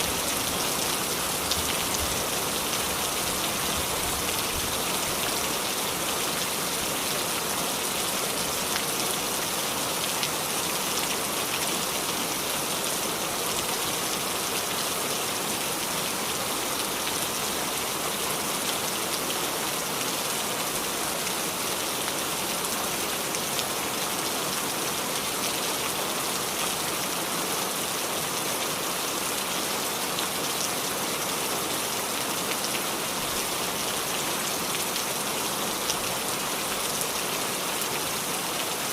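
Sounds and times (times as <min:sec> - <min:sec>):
heavy rain on hard surface: 0:00.0 - 0:38.9.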